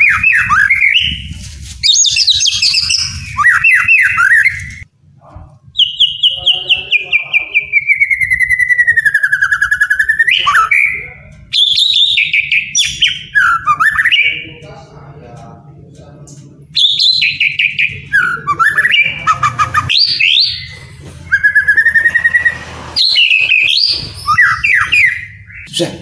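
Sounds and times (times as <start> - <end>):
bird singing whistled phrases: 0.0 - 4.8, 5.8 - 14.4, 16.8 - 25.8.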